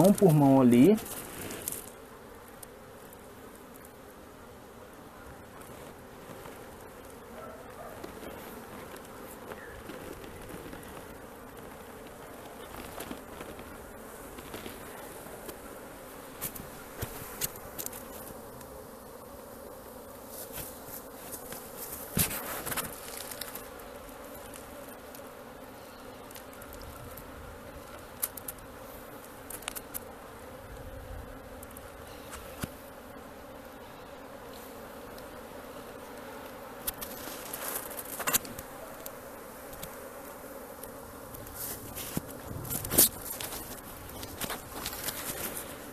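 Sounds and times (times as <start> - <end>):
honeybees buzzing: 0.0 - 45.9.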